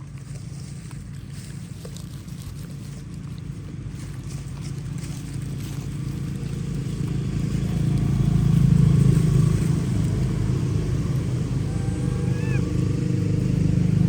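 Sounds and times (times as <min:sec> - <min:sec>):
vehicle engine passing by: 0:02.4 - 0:14.0.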